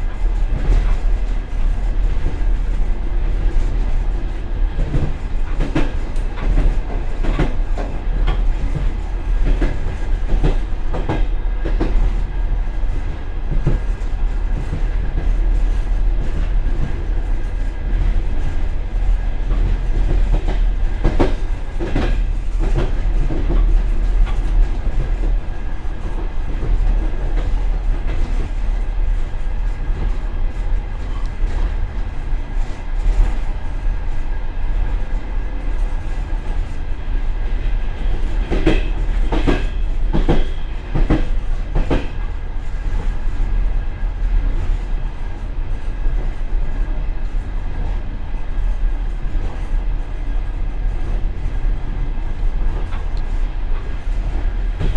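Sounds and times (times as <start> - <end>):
train wheels rumbling: 0.0 - 54.9.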